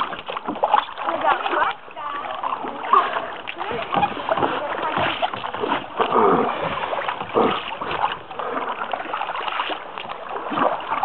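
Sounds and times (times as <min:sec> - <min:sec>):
canoe paddles splashing in water: 0:00.0 - 0:11.0.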